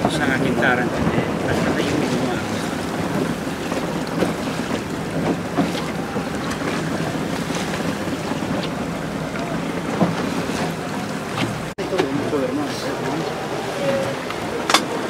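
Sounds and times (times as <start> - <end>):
waves slapping and splashing: 0.0 - 15.0
wind buffeting microphone: 0.0 - 15.0.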